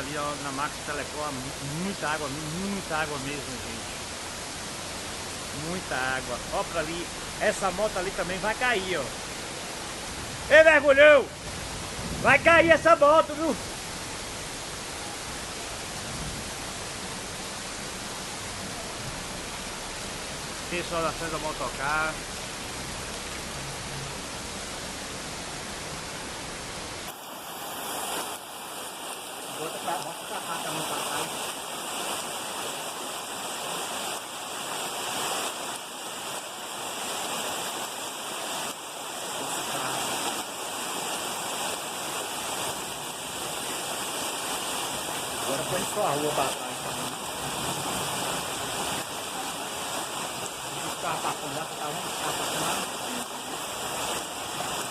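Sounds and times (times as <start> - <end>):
floodwater rushing down street: 0.0 - 54.9
heavy rain: 0.0 - 54.9.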